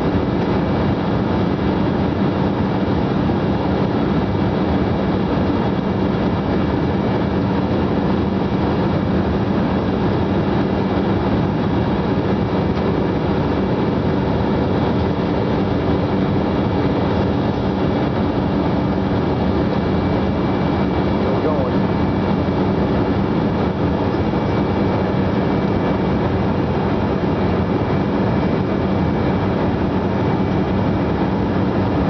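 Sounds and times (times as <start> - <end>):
airliner cabin engine hum: 0.0 - 32.0.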